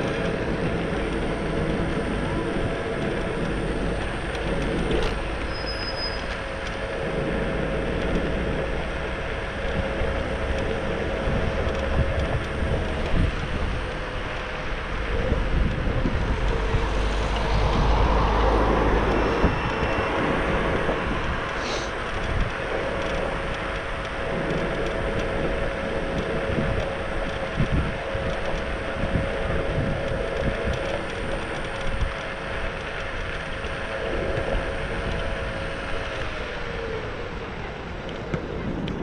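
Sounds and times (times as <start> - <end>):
faint steady whine: 0.0 - 39.0
passing traffic: 0.0 - 39.0
tyre noise on road: 0.0 - 39.0
wind buffeting microphone: 0.0 - 39.0.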